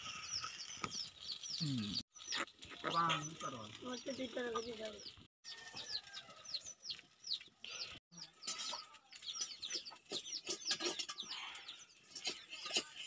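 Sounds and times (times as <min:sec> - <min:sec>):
chicks peeping: 0:00.0 - 0:12.4.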